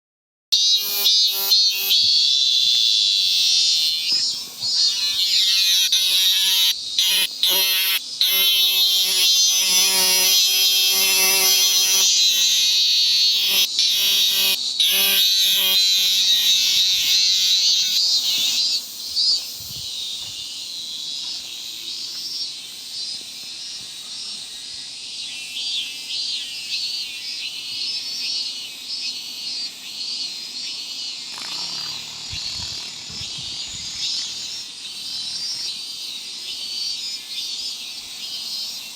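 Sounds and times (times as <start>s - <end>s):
cicadas singing: 0.6s - 38.9s.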